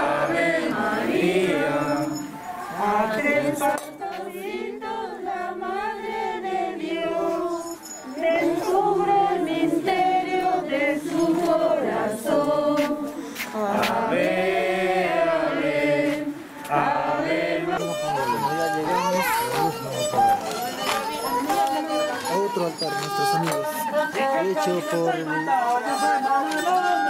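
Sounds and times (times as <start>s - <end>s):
group singing a hymn: 0.0s - 27.0s.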